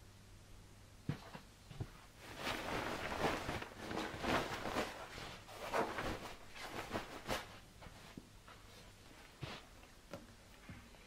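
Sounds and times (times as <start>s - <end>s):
bedding rustling: 1.0s - 11.0s.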